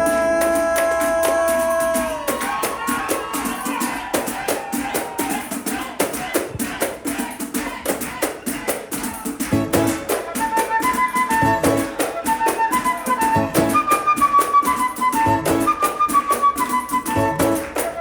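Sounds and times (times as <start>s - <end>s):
samba drums: 0.0s - 18.0s
shakers: 0.0s - 18.0s.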